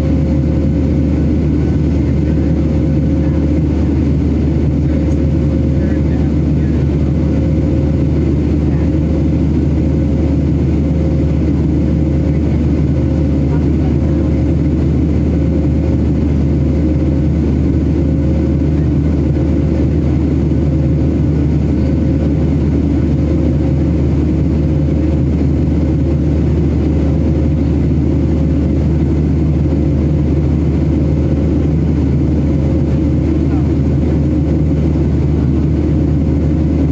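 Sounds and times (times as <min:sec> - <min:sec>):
jet engines drone in cabin: 0:00.0 - 0:36.9.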